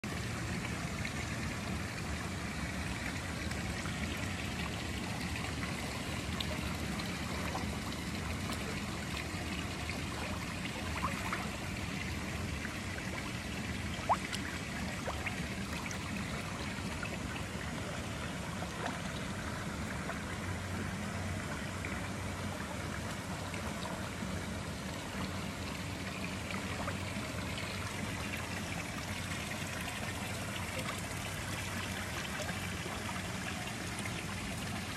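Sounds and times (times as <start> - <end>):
pool water lapping: 0.0 - 34.9.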